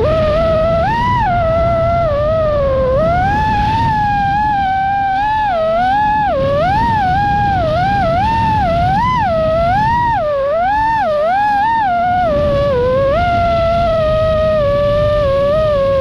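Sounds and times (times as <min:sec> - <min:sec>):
quadcopter motors whining: 0:00.0 - 0:16.0
wind rushing: 0:00.0 - 0:16.0.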